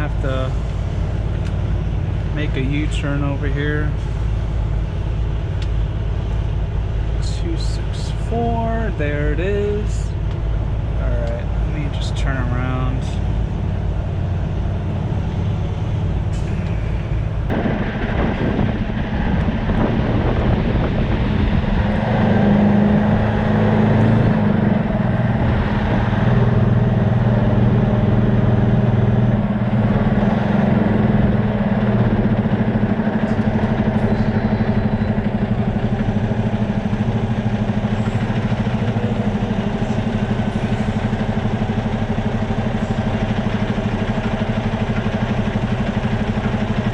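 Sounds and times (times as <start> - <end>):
truck diesel engine running: 0.0 - 46.9.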